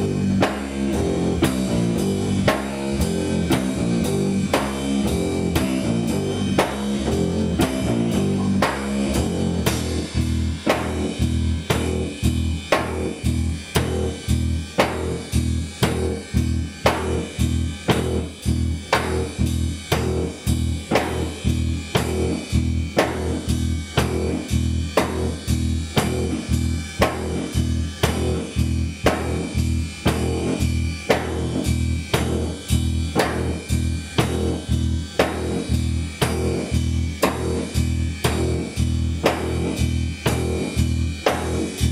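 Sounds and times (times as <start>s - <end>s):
bass guitar: 0.0s - 41.9s
drum kit: 0.0s - 41.9s
guitar riff: 0.0s - 41.9s.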